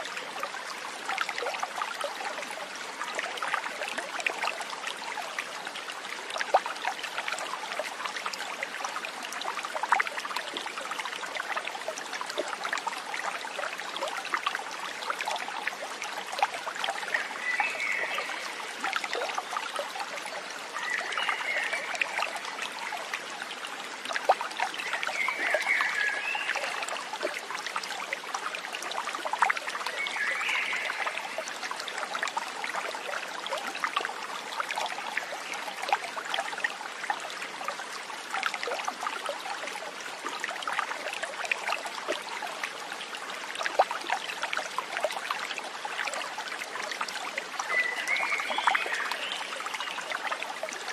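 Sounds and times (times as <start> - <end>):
small stream trickling: 0.0 - 50.9.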